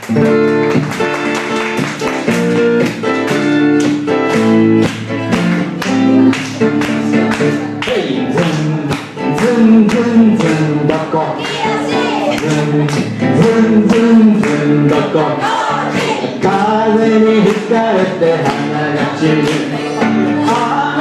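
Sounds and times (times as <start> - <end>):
band playing upbeat song: 0.0 - 21.0
guitar: 0.0 - 21.0.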